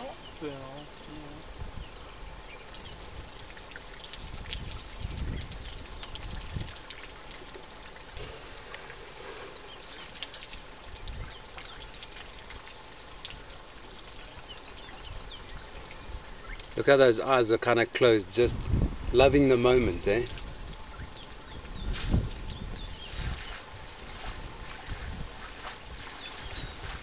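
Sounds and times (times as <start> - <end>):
low rumbles: 0.0 - 27.0
steady hiss: 0.0 - 27.0.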